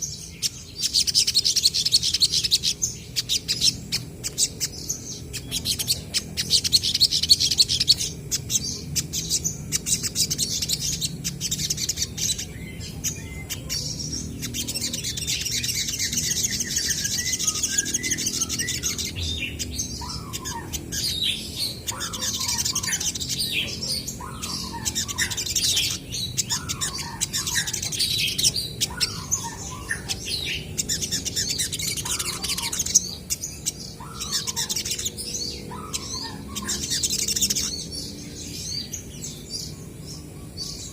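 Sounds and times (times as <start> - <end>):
sunbirds chirping and trilling: 0.0 - 40.9.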